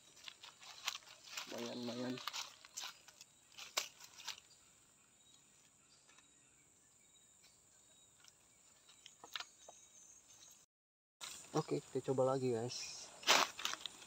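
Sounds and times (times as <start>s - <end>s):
forest insects buzzing: 0.0s - 10.5s, 11.2s - 14.0s.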